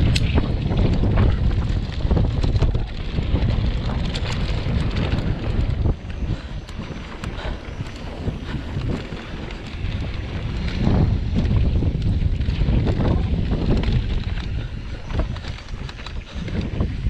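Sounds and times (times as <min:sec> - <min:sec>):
bike knocks and rattles: 0:00.0 - 0:17.0
bike tyre rumble on dirt: 0:00.0 - 0:17.0
wind rushing over microphone: 0:00.0 - 0:17.0.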